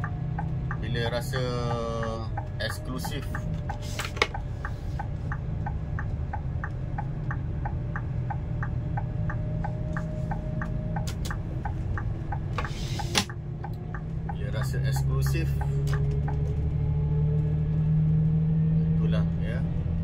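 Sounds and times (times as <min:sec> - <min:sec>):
turn signal clicking: 0:00.0 - 0:17.5
car engine and road rumble: 0:00.0 - 0:20.0.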